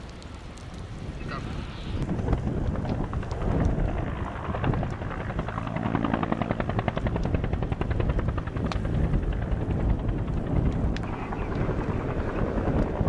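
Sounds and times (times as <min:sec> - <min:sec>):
helicopter rotor beating: 0:01.4 - 0:13.0.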